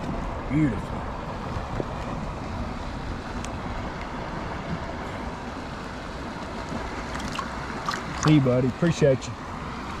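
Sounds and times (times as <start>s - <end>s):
river water rushing: 0.0s - 10.0s
wind rumble on microphone: 0.0s - 10.0s.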